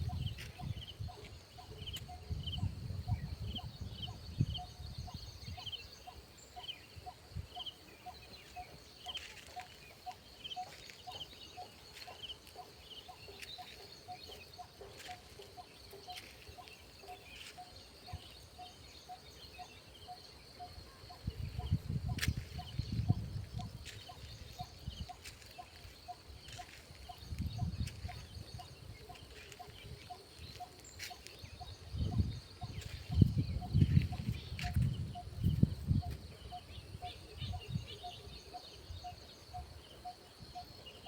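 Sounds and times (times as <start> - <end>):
faint high insect hum: 0.0 - 41.0.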